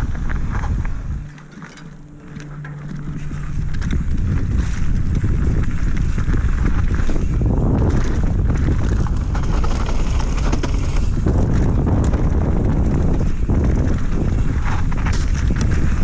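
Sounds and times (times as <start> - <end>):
steady low hum: 0.0 - 16.0
tyres rolling over gravel: 0.0 - 16.0
wind rushing over microphone: 0.0 - 16.0.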